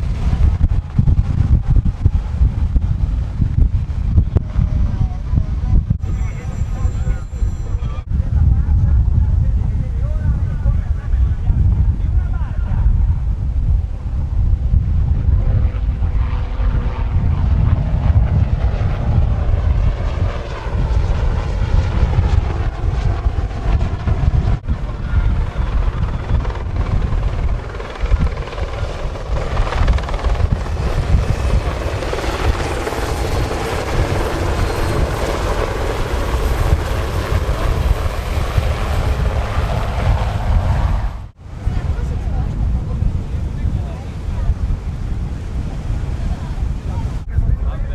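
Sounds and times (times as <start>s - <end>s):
aircraft engine roar: 0.0s - 47.9s
wind rumble on microphone: 0.0s - 47.9s.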